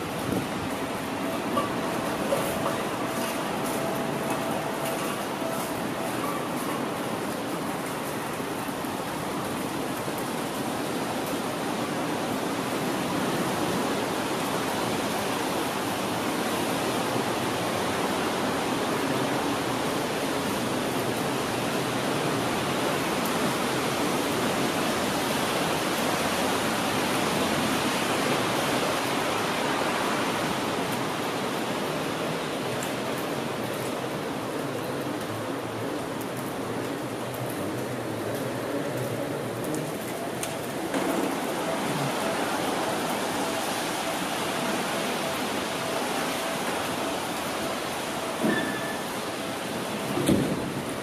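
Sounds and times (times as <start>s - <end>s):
rain falling: 0.0s - 51.0s.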